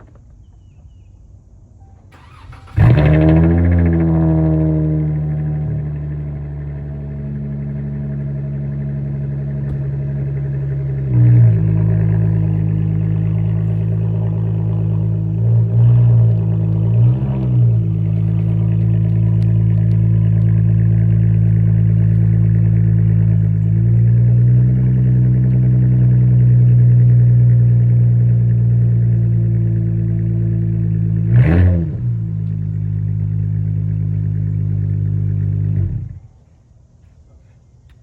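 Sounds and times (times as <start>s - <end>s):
car engine idling: 0.0s - 38.0s
car engine revving: 2.2s - 36.2s.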